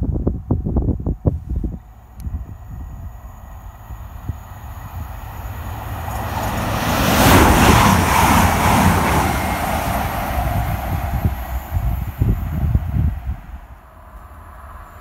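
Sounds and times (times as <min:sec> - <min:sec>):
diesel train passing: 0:01.8 - 0:15.0.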